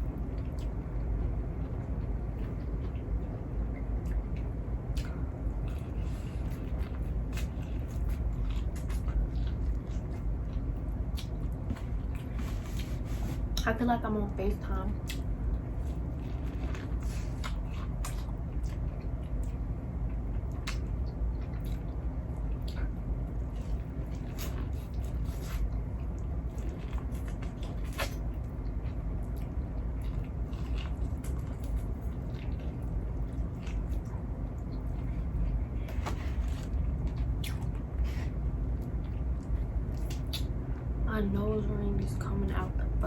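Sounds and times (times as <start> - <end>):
steady low hum: 0.0 - 43.0
wet chewing squishes: 0.2 - 13.7, 15.0 - 40.6.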